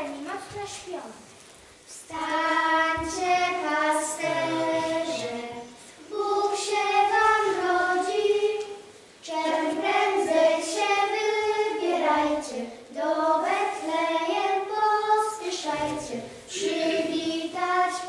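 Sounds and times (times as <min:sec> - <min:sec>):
children singing: 0:02.1 - 0:18.0.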